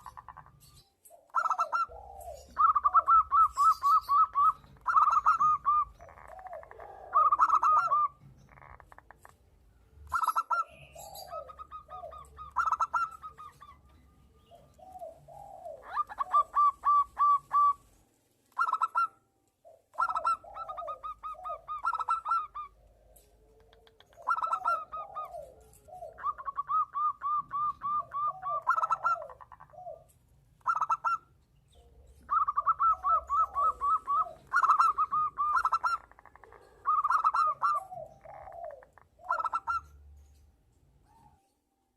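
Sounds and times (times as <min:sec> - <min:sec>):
doves cooing: 0:00.0 - 0:40.0.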